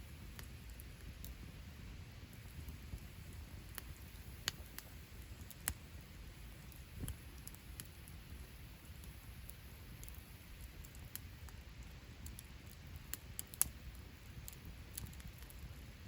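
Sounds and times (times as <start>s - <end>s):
campfire crackling and popping: 0.0s - 16.0s
low steady rumble: 0.0s - 16.0s.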